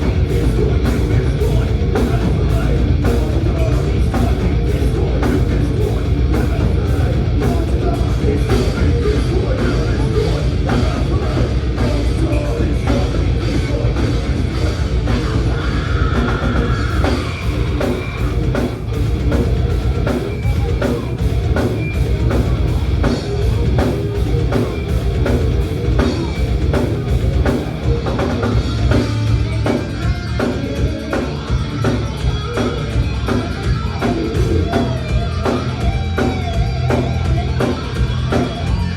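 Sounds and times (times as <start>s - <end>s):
fast drum-kit hits: 0.0s - 38.9s
thrash metal band playing live: 0.0s - 38.9s.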